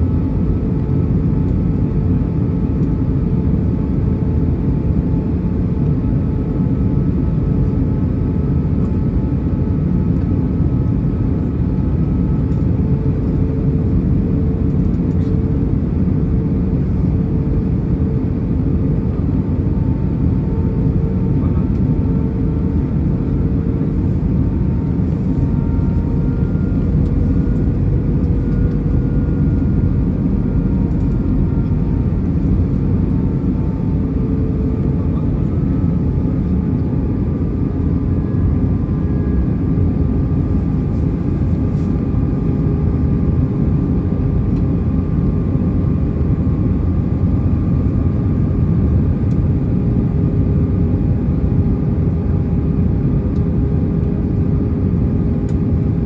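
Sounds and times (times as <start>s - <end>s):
airliner cabin roar: 0.0s - 56.0s
faint humming tones: 0.0s - 56.0s.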